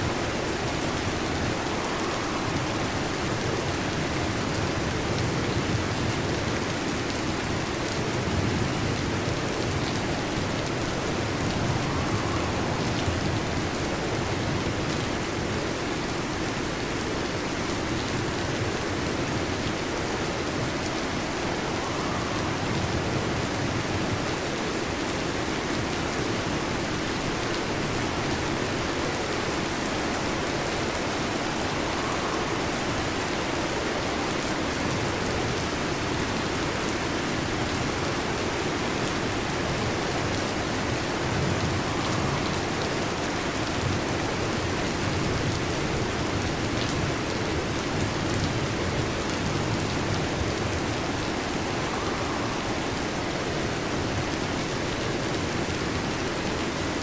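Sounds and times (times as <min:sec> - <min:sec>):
heavy rain on metal roof: 0:00.0 - 0:57.0.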